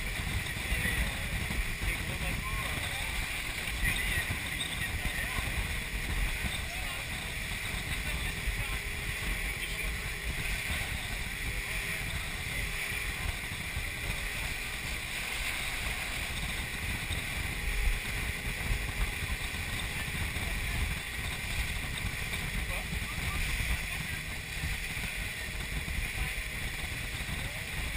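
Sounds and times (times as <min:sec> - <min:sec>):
rush of wind and water: 0:00.0 - 0:27.9
wind buffeting microphone: 0:00.0 - 0:27.9.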